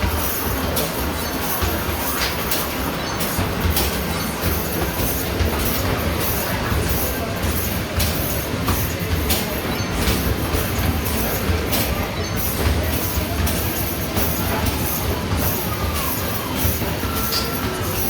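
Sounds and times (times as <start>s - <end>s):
basketballs rolling down ramp: 0.0s - 18.0s.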